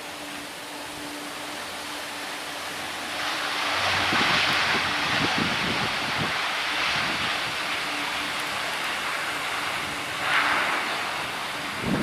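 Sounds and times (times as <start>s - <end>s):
distant turboprop airliner landing: 0.0s - 12.0s.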